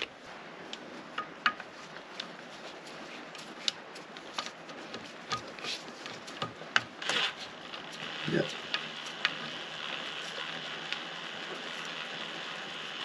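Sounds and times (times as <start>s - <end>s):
background hiss: 0.0s - 13.0s
small parts clicking and rubbing: 1.1s - 13.0s.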